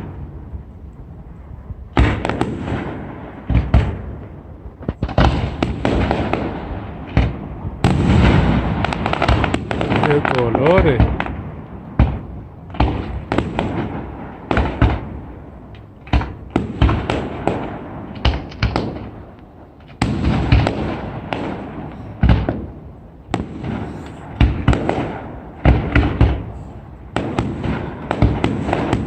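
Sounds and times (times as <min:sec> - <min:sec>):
fireworks bangs: 0:00.0 - 0:29.0
fireworks crackle: 0:00.0 - 0:29.0.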